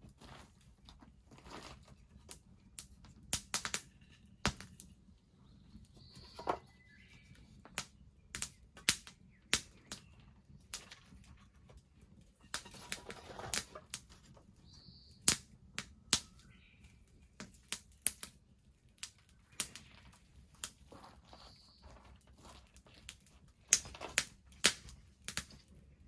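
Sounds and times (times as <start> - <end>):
bonfire crackling and popping: 0.0 - 5.0, 7.6 - 21.1, 21.8 - 26.0.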